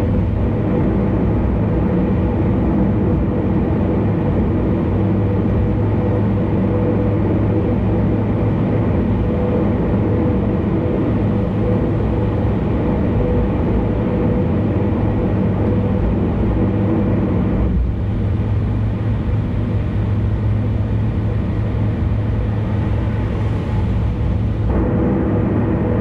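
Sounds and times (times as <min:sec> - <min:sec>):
car tyre and engine drone: 0:00.0 - 0:26.0.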